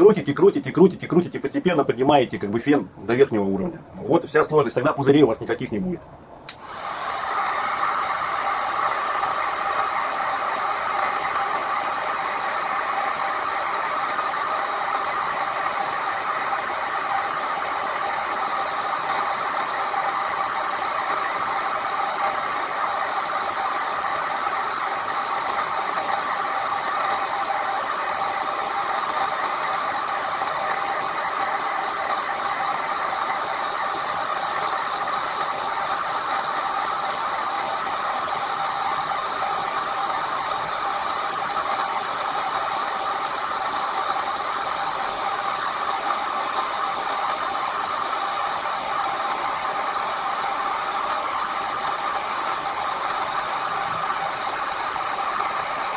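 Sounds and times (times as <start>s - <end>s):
fan whine: 0.0s - 55.9s
heat gun blowing air: 6.4s - 55.9s.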